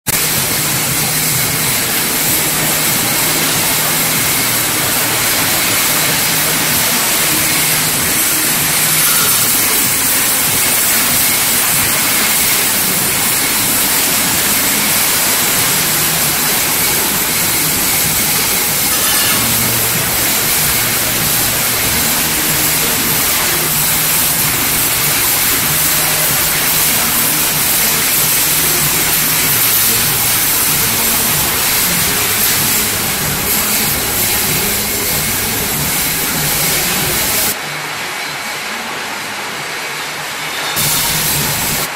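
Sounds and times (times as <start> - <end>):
machine hum: 0.1 - 37.7, 40.8 - 41.9
strong even hiss: 0.2 - 37.6, 40.8 - 41.9.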